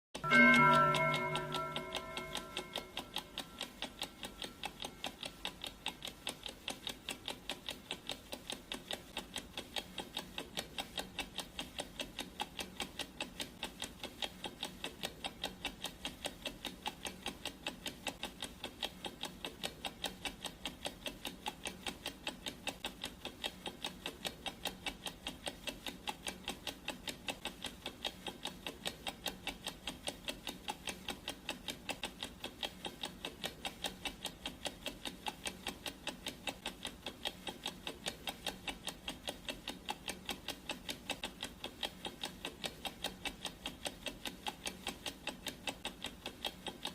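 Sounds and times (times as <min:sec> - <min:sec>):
clock ticking: 0:00.2 - 0:46.9.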